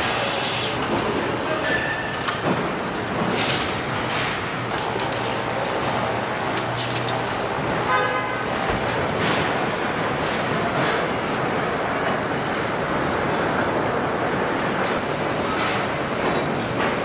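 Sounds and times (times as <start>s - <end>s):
factory mechanical din: 0.0s - 17.0s.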